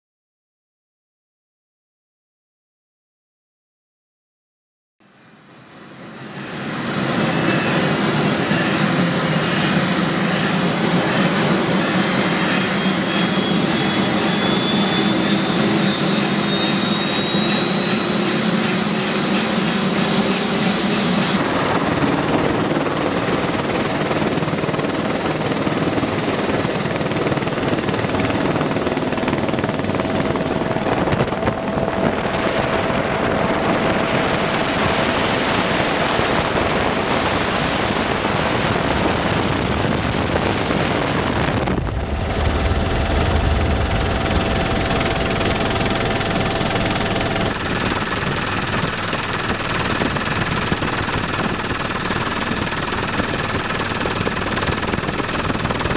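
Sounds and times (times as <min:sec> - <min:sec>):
helicopter turbine engine whine: 0:05.1 - 0:55.9.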